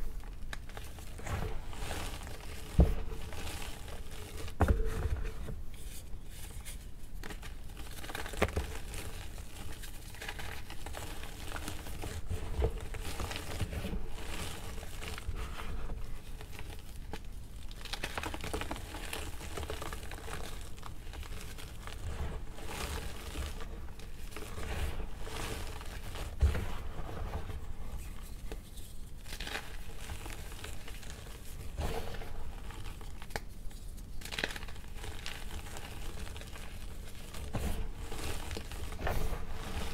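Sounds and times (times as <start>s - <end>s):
hands crumbling dry chalk: 0.0s - 39.9s.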